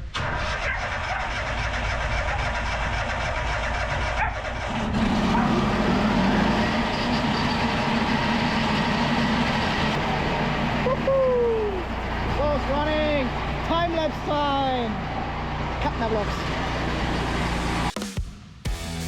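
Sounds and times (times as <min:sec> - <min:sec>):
saw petrol engine running: 0:00.1 - 0:18.0.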